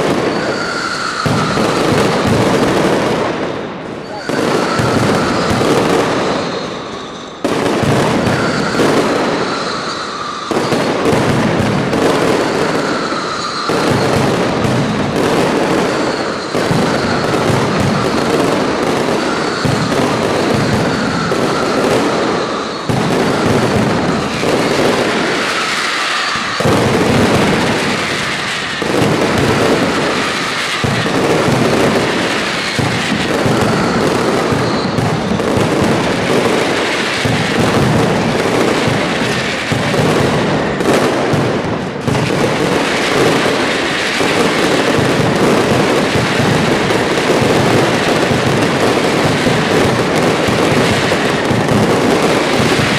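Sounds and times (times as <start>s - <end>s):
firecracker bangs with crackle: 0.0s - 52.9s.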